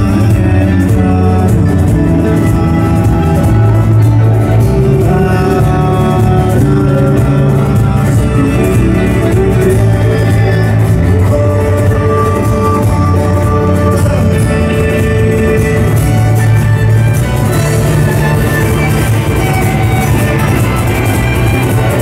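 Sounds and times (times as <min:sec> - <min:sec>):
person singing: 0:00.0 - 0:22.0
rock band playing: 0:00.0 - 0:22.0.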